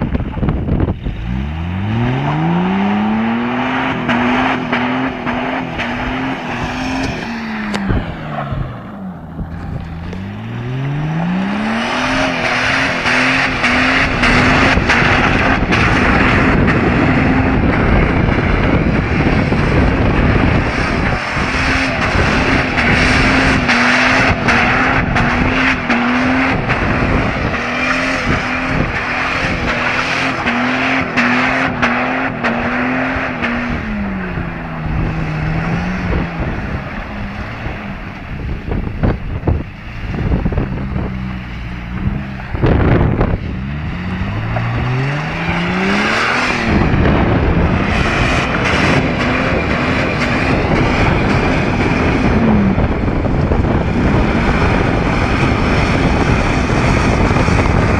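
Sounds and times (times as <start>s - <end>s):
car engine at high revs: 0.0s - 57.9s.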